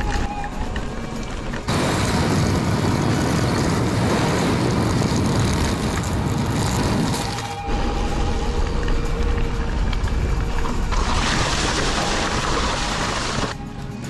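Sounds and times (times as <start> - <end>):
tyres rolling on dirt road: 0.0 - 13.6
wind rushing over microphone: 1.7 - 13.6.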